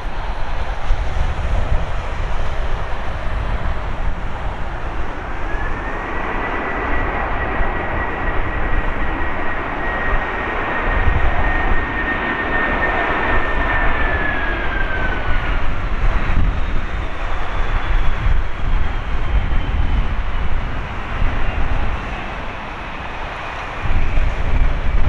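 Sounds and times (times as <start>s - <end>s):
high jet engine whine: 0.0s - 25.0s
jet engine roar: 0.0s - 25.0s.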